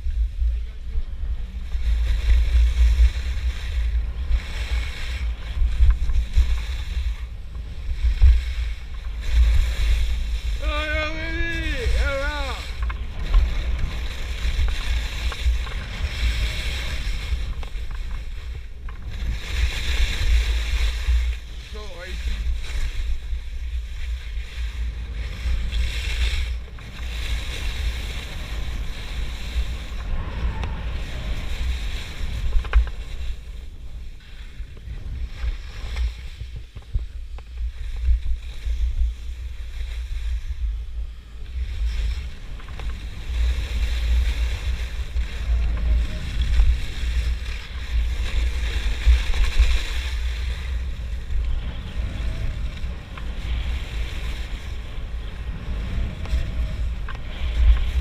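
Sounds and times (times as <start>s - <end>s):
wind buffeting microphone: 0.0s - 58.0s
skis hissing over snow: 1.5s - 58.0s.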